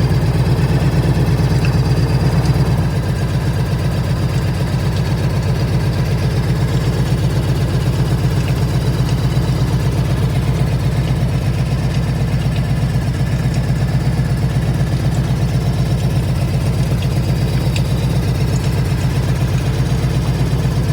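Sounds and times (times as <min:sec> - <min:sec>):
faint engine ticks: 0:00.0 - 0:20.9
motorcycle engine idling: 0:00.0 - 0:20.9.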